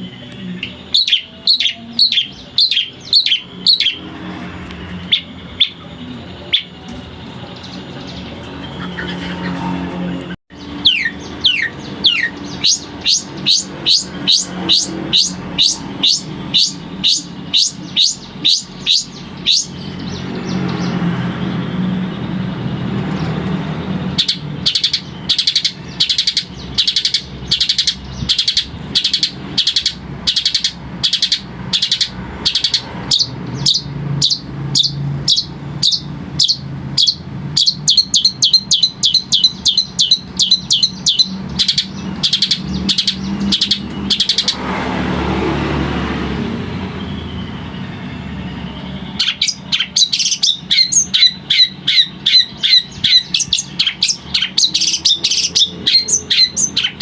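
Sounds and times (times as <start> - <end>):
shrike calling: 0.0 - 57.0.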